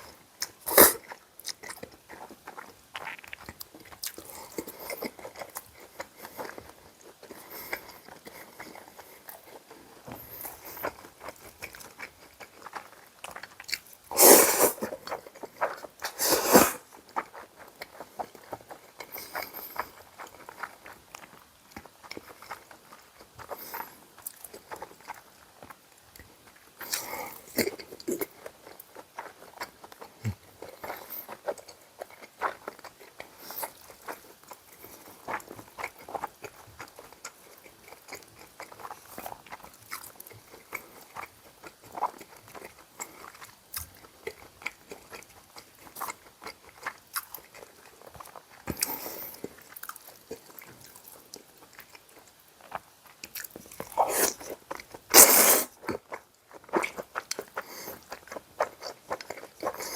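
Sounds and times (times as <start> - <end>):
person chewing with wet smacking: 0.0 - 59.9.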